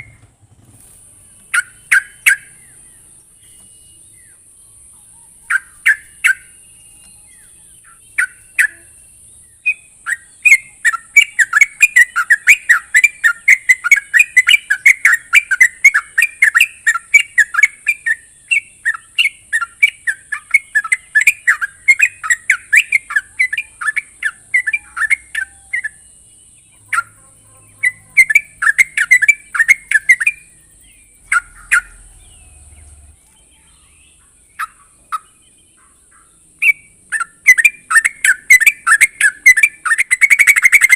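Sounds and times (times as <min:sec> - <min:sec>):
bird chattering call: 0:00.0 - 0:40.9.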